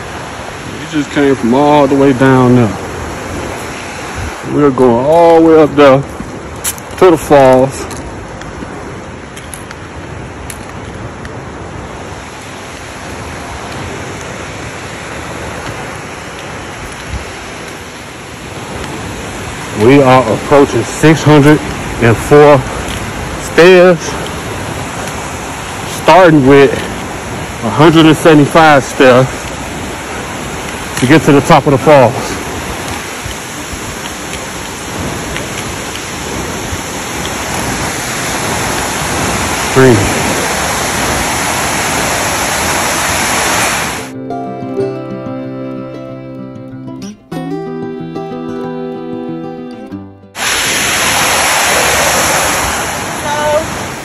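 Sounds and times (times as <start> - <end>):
waterfall rushing: 0.0 - 45.3, 50.4 - 54.0.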